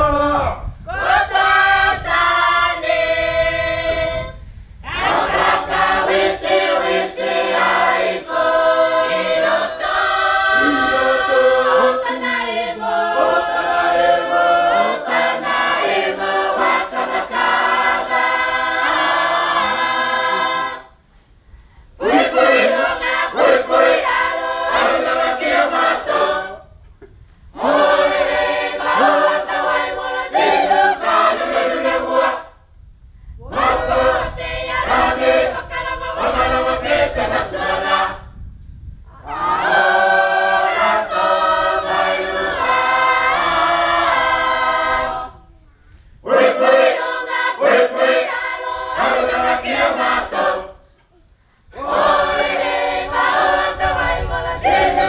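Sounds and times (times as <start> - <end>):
choir singing unaccompanied: 0.9 - 21.0, 22.0 - 32.6, 33.4 - 38.3, 39.1 - 45.5, 46.2 - 50.9, 51.7 - 55.0.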